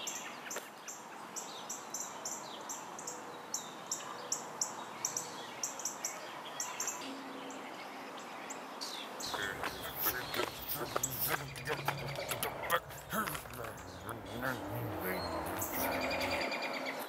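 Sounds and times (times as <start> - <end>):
bird chirping: 0.0 - 17.0
steady background noise: 0.0 - 17.0.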